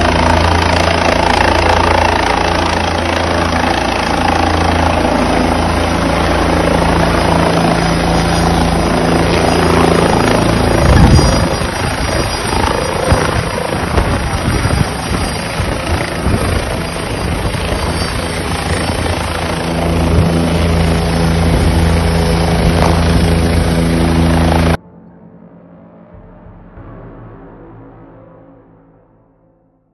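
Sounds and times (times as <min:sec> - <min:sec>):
helicopter running close by: 0:00.0 - 0:24.8.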